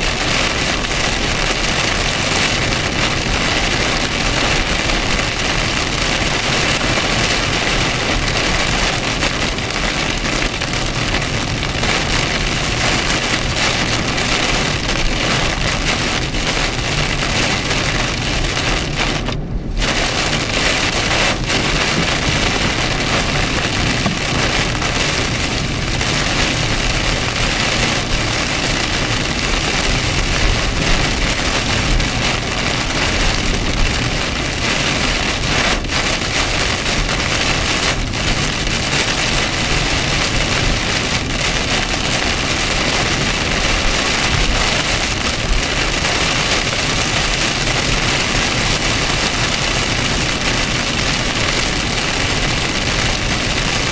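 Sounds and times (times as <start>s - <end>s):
heavy rain drumming on car roof: 0.0s - 53.9s
road noise: 0.0s - 53.9s.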